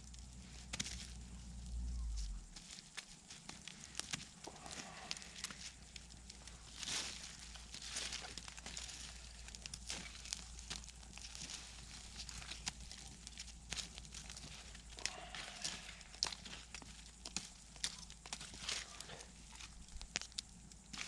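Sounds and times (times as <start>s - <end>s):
rustling: 0.1s - 21.0s.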